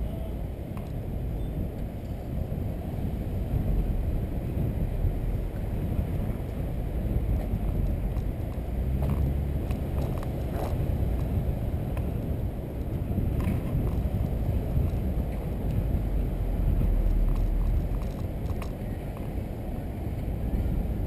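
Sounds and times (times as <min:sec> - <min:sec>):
car engine and tyres rumbling: 0:00.0 - 0:21.0
wind noise on microphone: 0:00.0 - 0:21.0.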